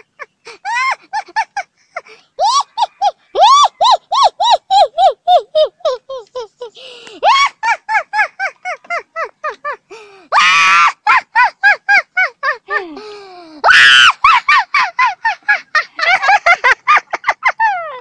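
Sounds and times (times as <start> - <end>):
girl laughing hard: 0.0 - 18.0.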